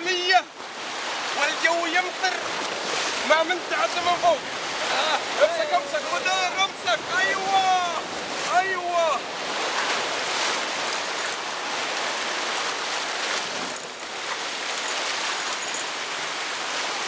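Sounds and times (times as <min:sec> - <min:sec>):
whitewater rapids rushing: 0:00.0 - 0:17.0.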